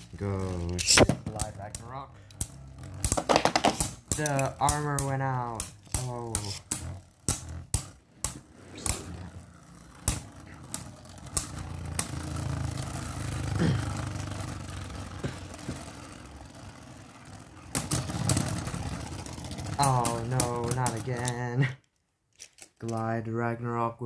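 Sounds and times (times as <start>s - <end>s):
spinning tops clicking together: 0.0s - 21.5s
spinning tops whirring: 0.0s - 21.6s.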